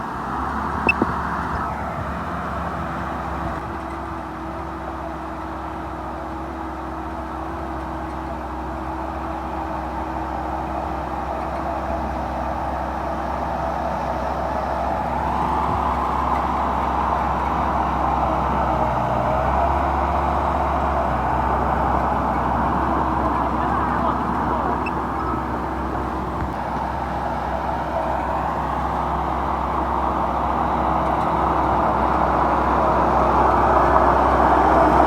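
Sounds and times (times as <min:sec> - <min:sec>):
heavy machinery diesel engine: 0:00.0 - 0:35.0.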